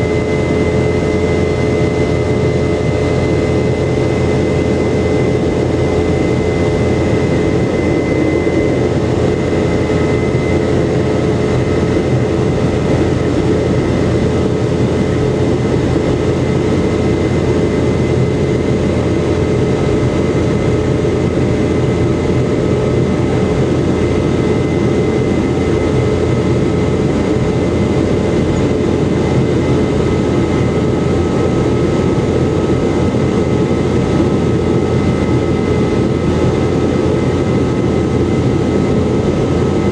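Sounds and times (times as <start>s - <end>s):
jet engine drone in cabin: 0.0s - 39.9s
thin steady whine: 0.0s - 39.9s.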